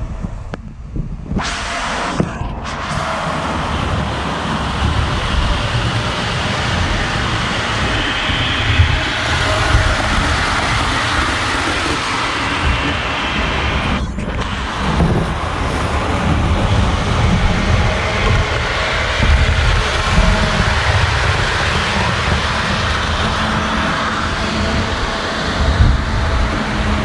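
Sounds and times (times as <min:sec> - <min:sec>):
steam hiss: 0:01.4 - 0:27.0
model locomotive rumble: 0:01.7 - 0:27.0.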